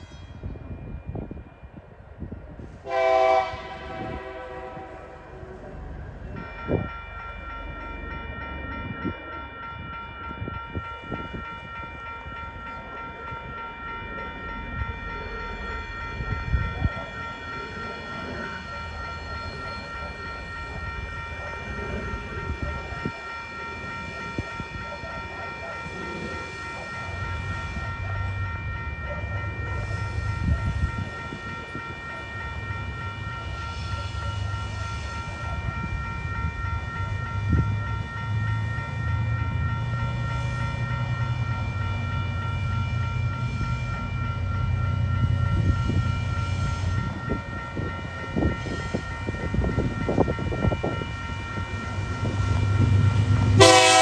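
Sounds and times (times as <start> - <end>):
diesel locomotive engine rumble: 0.0 - 54.0
level crossing warning bells: 0.0 - 54.0.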